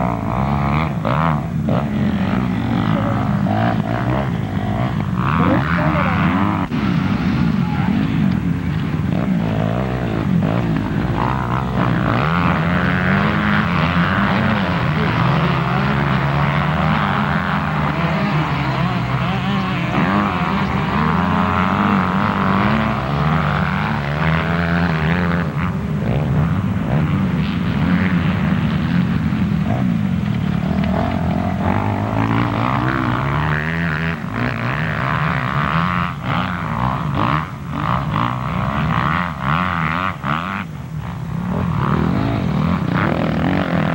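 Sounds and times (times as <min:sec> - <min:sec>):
motorbike engines revving: 0:00.0 - 0:43.9.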